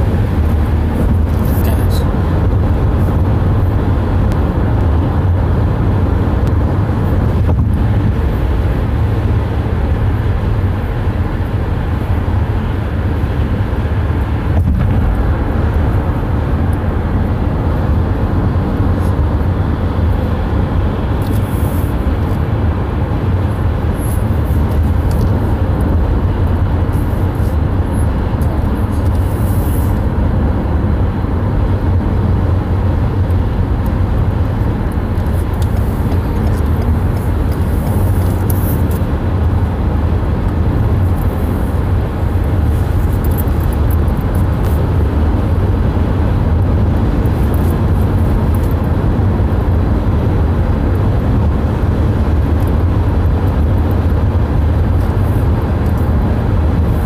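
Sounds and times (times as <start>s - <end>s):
car engine hum: 0.0s - 57.0s
road rumble: 0.0s - 57.0s.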